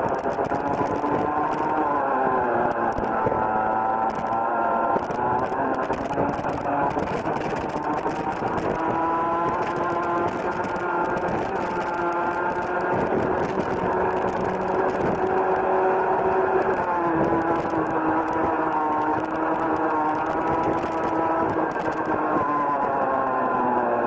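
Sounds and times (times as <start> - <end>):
kart engine revving high: 0.0 - 24.0.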